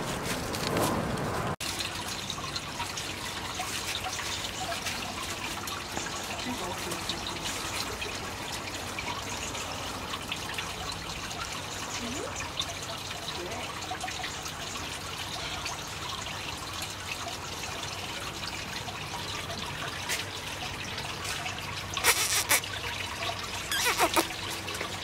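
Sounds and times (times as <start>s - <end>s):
water trickling: 1.6s - 25.0s.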